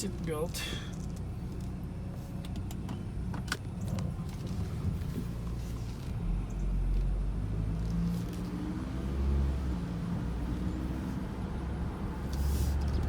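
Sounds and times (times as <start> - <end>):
car engine and exhaust accelerating: 1.4 - 13.0.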